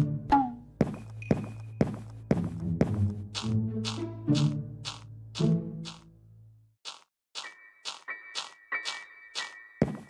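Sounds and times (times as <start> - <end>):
music: 0.0 - 5.9, 7.5 - 10.0
sharp cartoon footstep taps: 0.3 - 6.1, 6.8 - 10.0.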